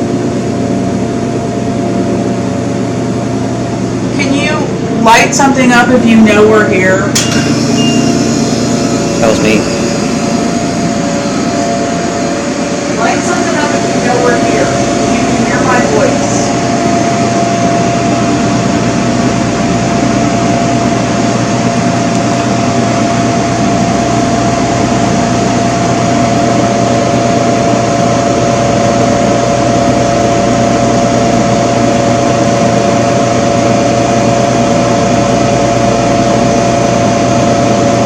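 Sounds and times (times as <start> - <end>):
constant hum: 0.0 - 38.0.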